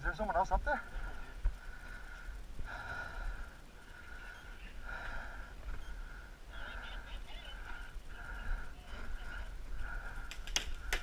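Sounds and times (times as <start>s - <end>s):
heavy breathing behind a mask: 0.8s - 11.0s.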